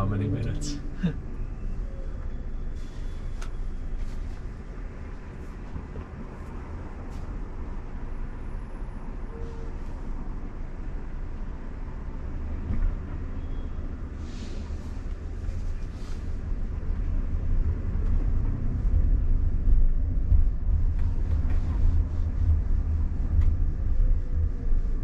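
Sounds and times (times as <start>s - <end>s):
road rumble inside car: 0.0s - 25.0s.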